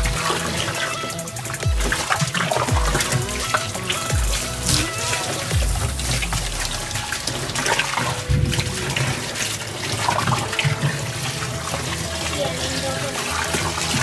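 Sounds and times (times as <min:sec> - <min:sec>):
running water splashing: 0:00.0 - 0:14.0.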